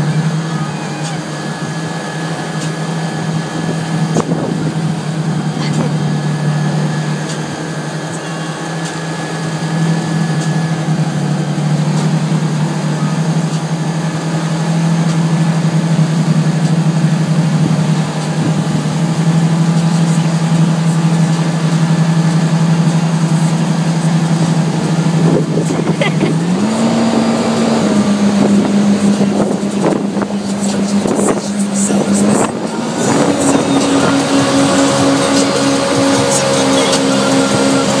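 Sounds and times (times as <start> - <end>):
churning wake rushing: 0.0 - 38.0
motorboat engine running: 0.0 - 38.0
wind: 0.0 - 38.0.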